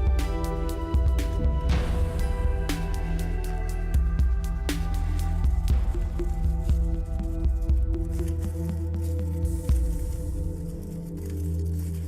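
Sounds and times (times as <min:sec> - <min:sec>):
background music with low notes: 0:00.0 - 0:12.0.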